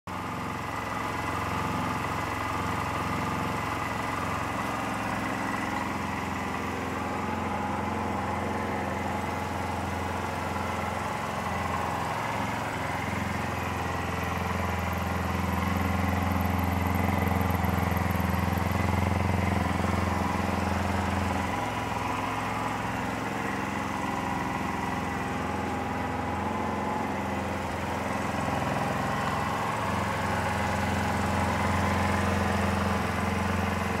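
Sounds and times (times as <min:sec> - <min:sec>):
motorcycle engine idling: 0:00.1 - 0:34.0.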